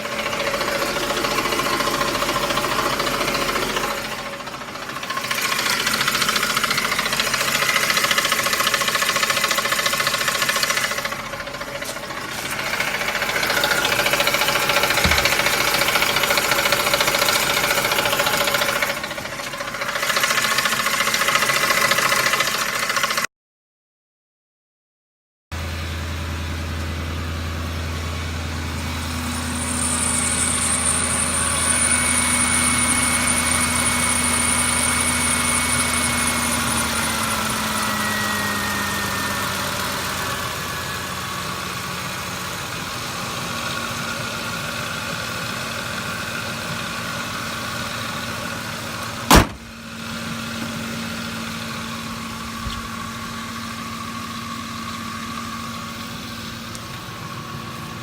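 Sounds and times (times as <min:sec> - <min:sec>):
engine running: 0:00.0 - 0:23.3, 0:25.6 - 0:58.0.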